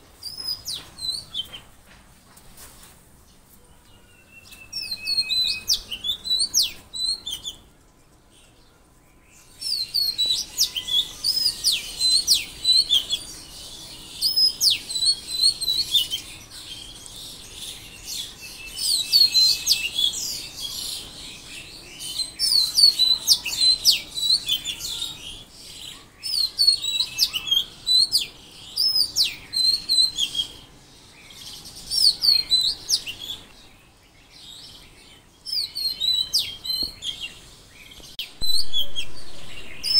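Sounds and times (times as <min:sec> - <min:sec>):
small songbirds chirping: 0:00.0 - 0:01.9, 0:02.6 - 0:39.9.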